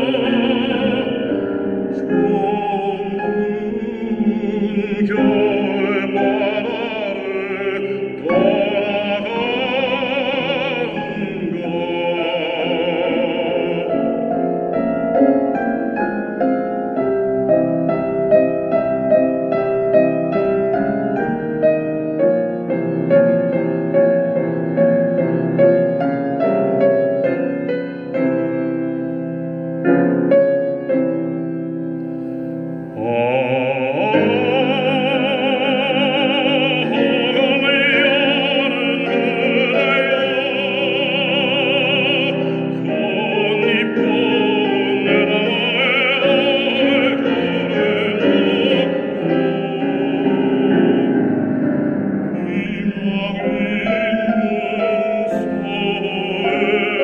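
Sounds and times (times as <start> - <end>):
man singing operatically: 0.0 - 23.6, 32.9 - 57.0
piano: 0.0 - 57.0.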